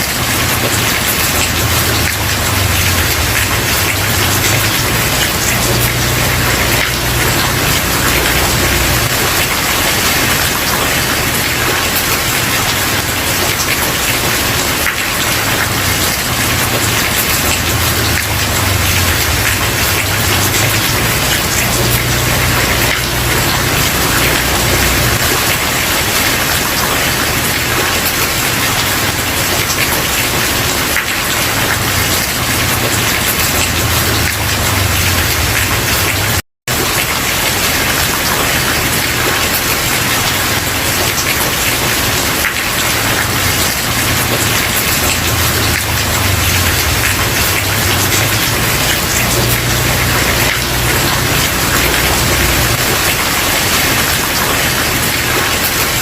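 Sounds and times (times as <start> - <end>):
rain on wooden porch: 0.0 - 56.0.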